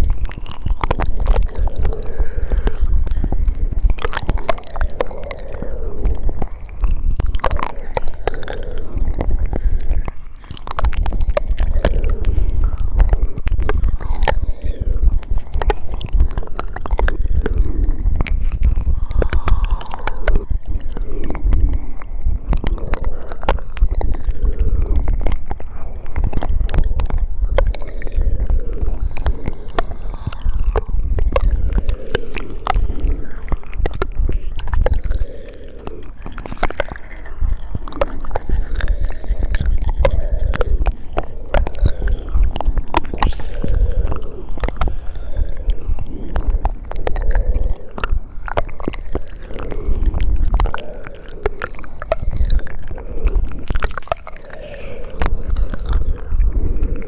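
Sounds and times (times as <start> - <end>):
low rumble: 0.0 - 57.0
wet mouth clicks and smacks: 0.0 - 57.0.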